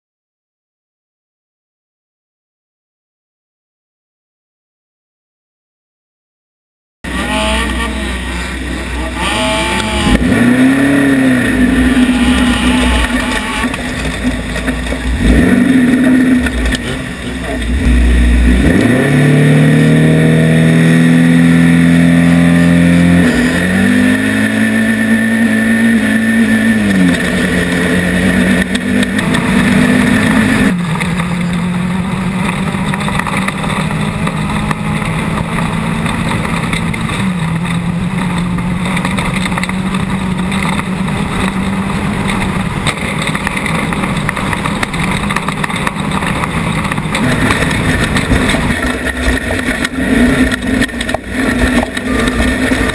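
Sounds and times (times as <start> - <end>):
race car engine revving: 7.0 - 52.9.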